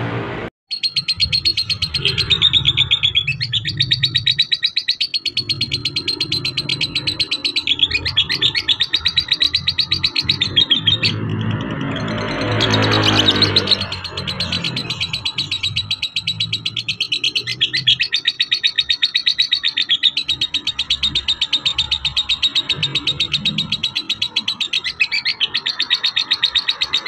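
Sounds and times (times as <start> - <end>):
lovebird chattering trill: 0.7 - 27.0.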